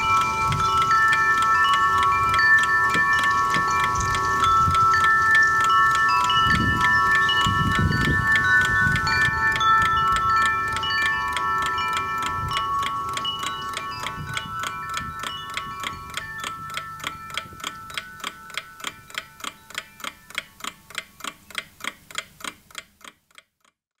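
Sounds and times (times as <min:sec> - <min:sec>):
ringing chime tones: 0:00.0 - 0:21.2
mechanical ticking: 0:00.0 - 0:24.0.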